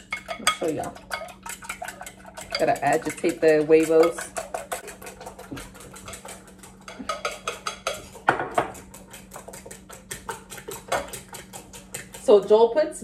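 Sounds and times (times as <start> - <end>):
fork clinking against bowl: 0.1 - 12.2.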